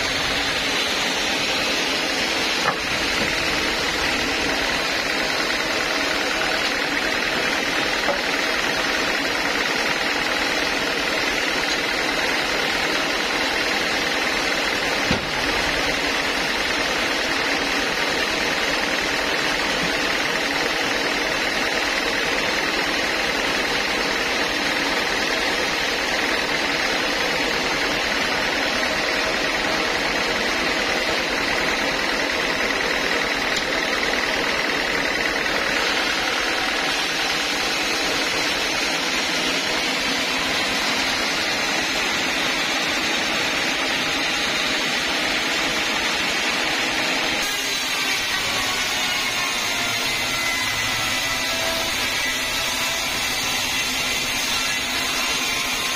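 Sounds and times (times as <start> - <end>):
band sawmill running: 0.0 - 55.9
saw blade cutting through log: 0.0 - 55.9.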